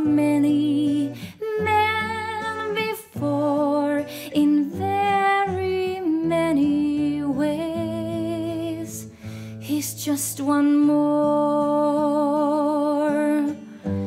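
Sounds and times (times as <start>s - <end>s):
acoustic guitar: 0.0s - 14.0s
woman singing ballad: 0.0s - 14.0s.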